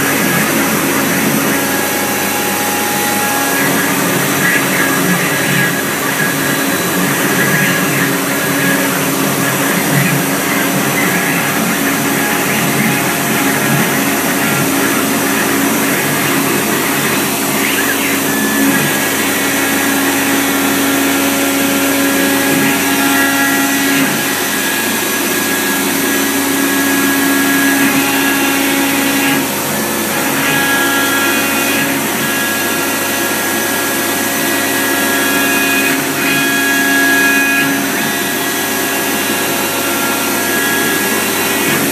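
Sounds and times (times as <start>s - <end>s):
dust extraction vacuum: 0.0s - 41.9s
router spindle cutting wood: 0.0s - 41.9s.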